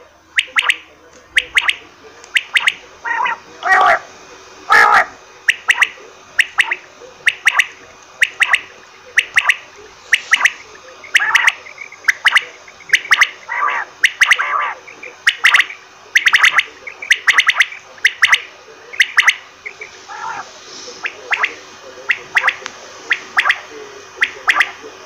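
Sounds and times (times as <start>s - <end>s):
quail calling: 0.4s - 4.1s, 4.7s - 24.8s.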